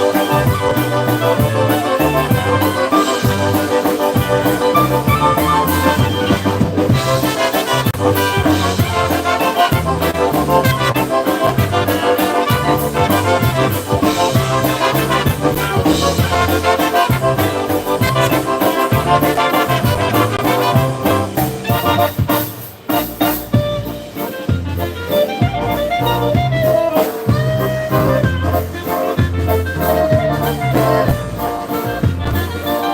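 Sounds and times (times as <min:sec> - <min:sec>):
polka band playing: 0:00.0 - 0:32.9.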